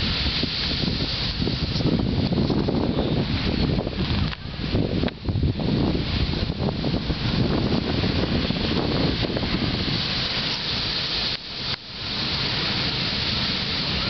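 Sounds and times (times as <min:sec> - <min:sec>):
waves crashing on beach: 0:00.0 - 0:14.0.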